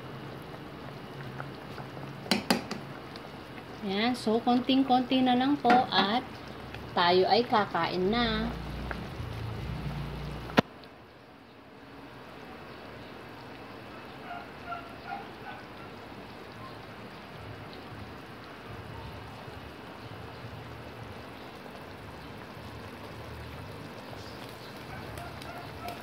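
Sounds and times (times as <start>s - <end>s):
broth boiling in a pot: 0.0s - 26.0s.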